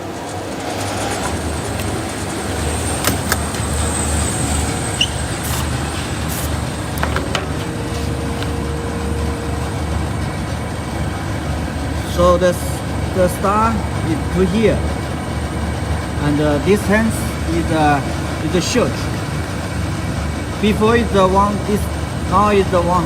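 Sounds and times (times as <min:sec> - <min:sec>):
machine running with low hum: 0:00.0 - 0:23.0.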